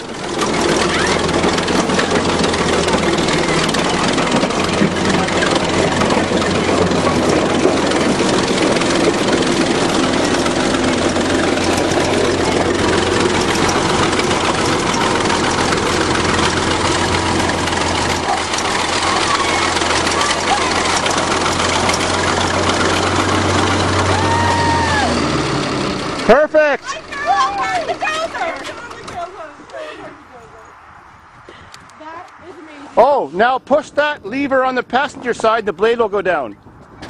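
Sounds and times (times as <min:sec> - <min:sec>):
steel tracks clattering: 0:00.0 - 0:29.7
bulldozer engine humming: 0:00.0 - 0:31.2.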